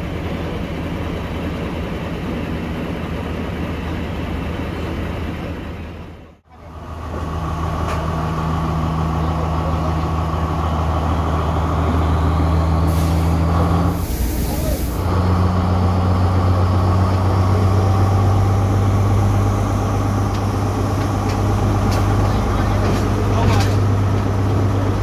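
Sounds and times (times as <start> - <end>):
diesel train engine idling: 0.0 - 25.0.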